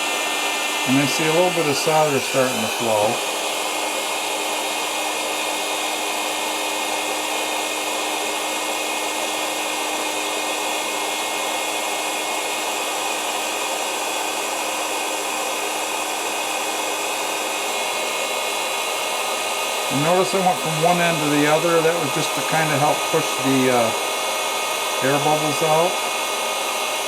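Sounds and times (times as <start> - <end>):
heat gun blowing air: 0.0 - 27.0.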